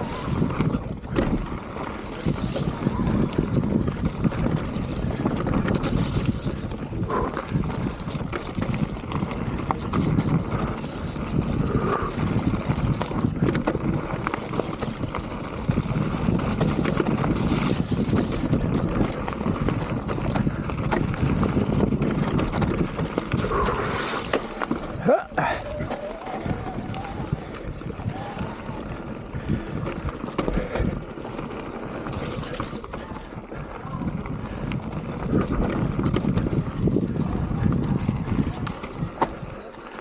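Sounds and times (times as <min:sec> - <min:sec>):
wind rushing over microphone: 0:00.0 - 0:39.6
bike knocks and rattles: 0:00.0 - 0:40.0.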